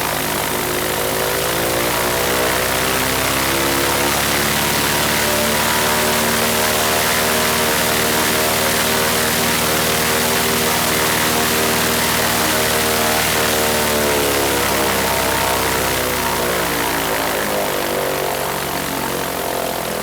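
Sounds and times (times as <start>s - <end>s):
aircraft engine running: 0.0s - 20.0s.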